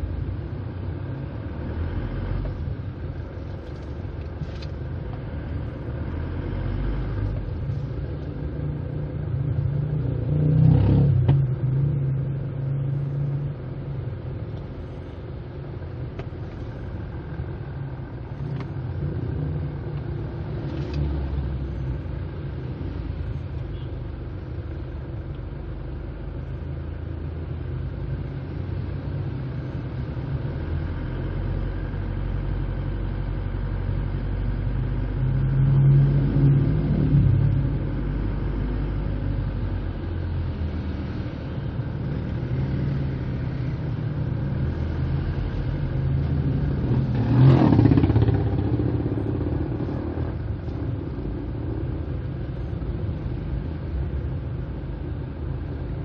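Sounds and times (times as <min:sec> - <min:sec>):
motorcycles: 0:00.0 - 0:56.0
road traffic engine rumble: 0:00.0 - 0:56.0.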